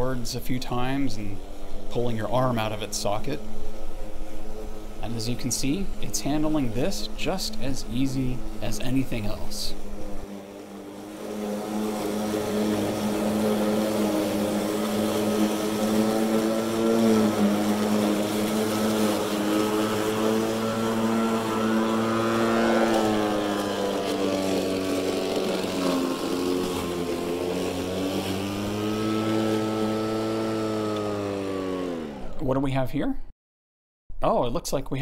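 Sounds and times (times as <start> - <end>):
electric lawn mower cutting grass: 0.0 - 32.4.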